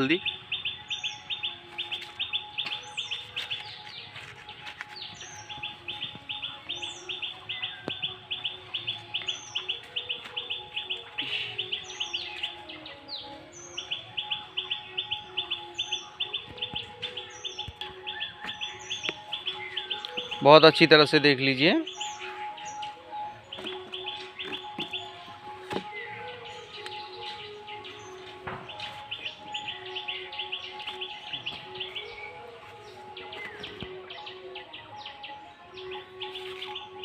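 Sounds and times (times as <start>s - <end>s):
birds chirping rapidly: 0.0s - 37.0s.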